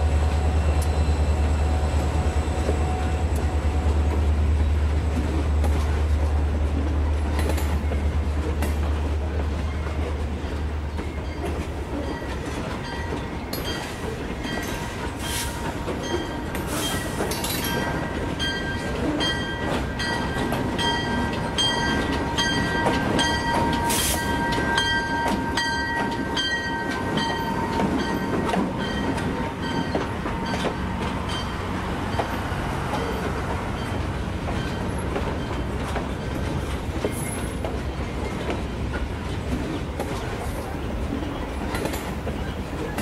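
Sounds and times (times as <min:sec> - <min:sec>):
model trains rumbling: 0:00.0 - 0:43.0.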